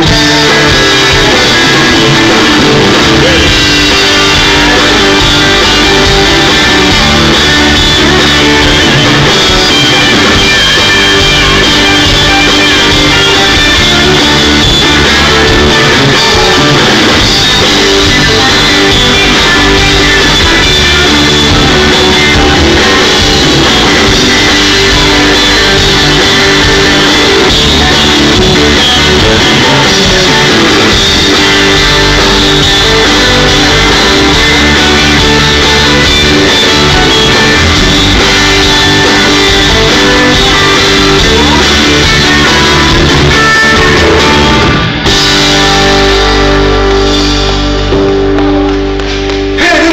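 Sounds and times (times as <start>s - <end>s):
bass guitar: 0.0s - 49.9s
drum kit: 0.0s - 49.9s
electric guitars: 0.0s - 49.9s
ringing guitar chords: 0.0s - 49.9s.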